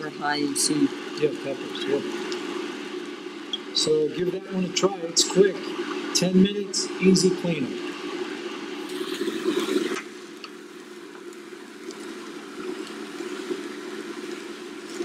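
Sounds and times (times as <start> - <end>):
induction cooktop humming: 0.0 - 15.0.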